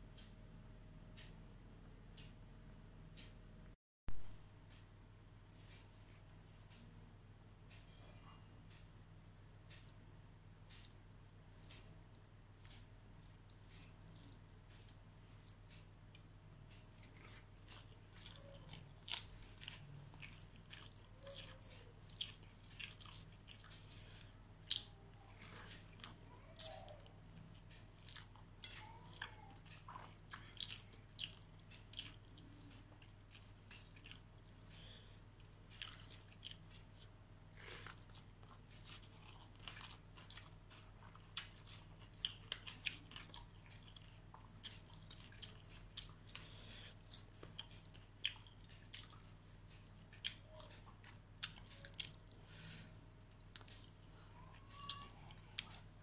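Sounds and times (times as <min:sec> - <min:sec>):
steady low hum: 0:00.0 - 0:56.0
fingers squishing rice on a plate: 0:07.7 - 0:56.0
wet chewing and mouth clicks: 0:08.7 - 0:52.5, 0:53.2 - 0:56.0.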